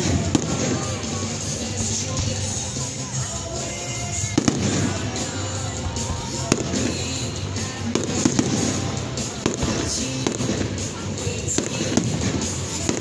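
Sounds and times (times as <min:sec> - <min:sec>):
fireworks bursting with bangs: 0:00.0 - 0:13.0
music playing: 0:00.0 - 0:13.0.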